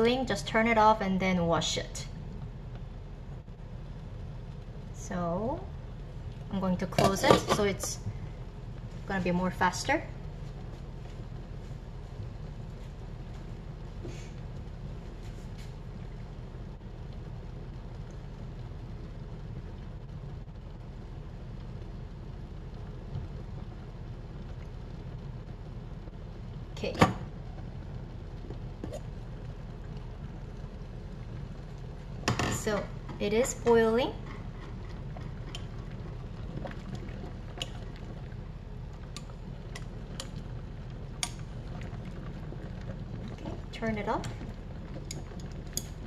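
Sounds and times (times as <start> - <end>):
water heating in a pot: 0.0 - 46.0.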